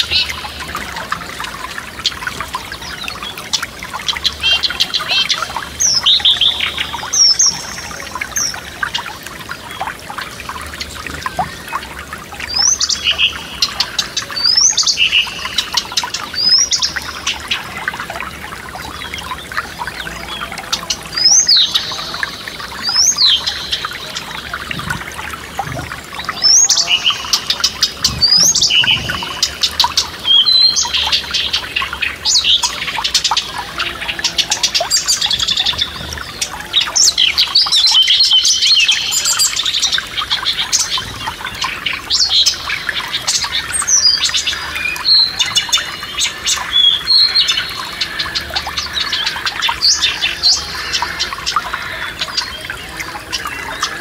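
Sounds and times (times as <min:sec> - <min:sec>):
forest stream rushing: 0:00.0 - 0:54.0
songbirds singing: 0:00.0 - 0:54.0.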